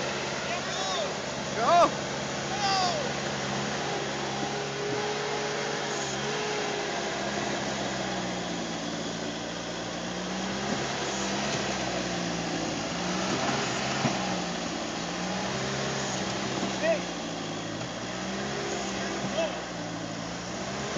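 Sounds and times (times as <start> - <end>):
loader and tractor engines droning: 0.0 - 20.9.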